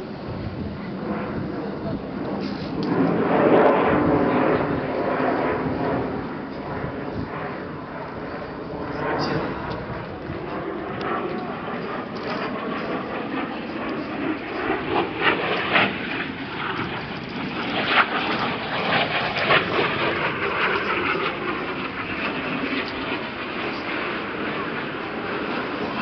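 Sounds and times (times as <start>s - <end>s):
jet flying overhead: 0.0s - 26.0s.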